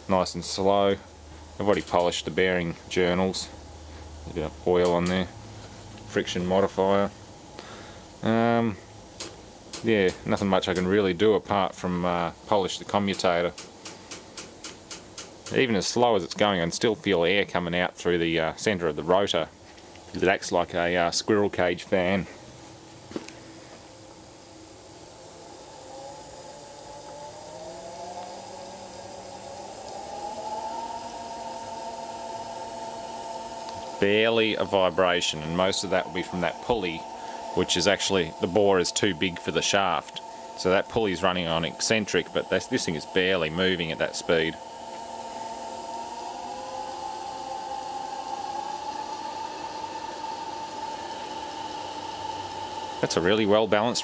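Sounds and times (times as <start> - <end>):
electric motor whirring hum: 0.0 - 54.0.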